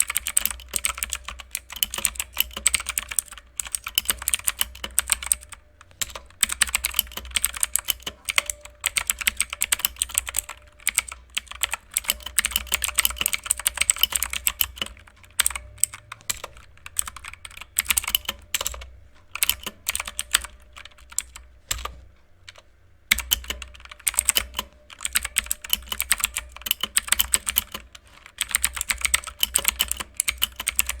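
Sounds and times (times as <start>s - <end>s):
mechanical keyboard typing: 0.0s - 31.0s.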